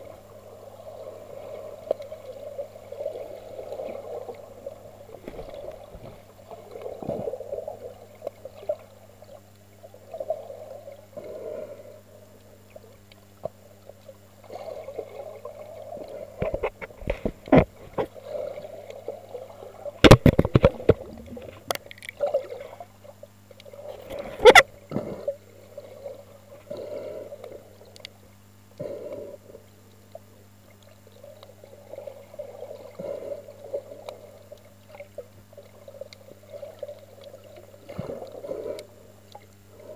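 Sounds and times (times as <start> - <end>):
steady low hum: 0.0 - 39.9
underwater water swishes: 0.0 - 39.9.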